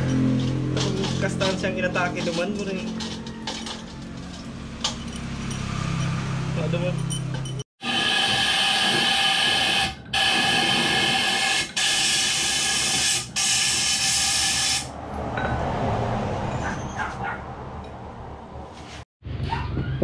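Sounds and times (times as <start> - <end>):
workshop noise: 0.0 - 20.0.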